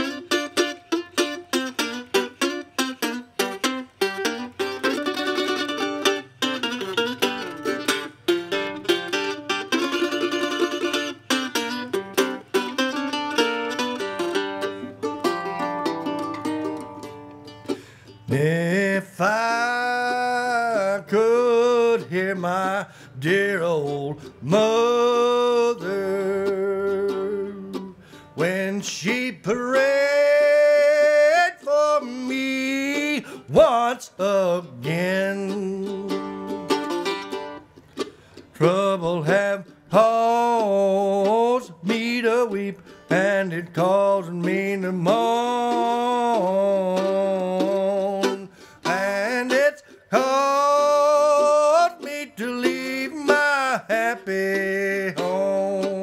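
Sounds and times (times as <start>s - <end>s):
solo mandolin melody: 0.0s - 56.0s.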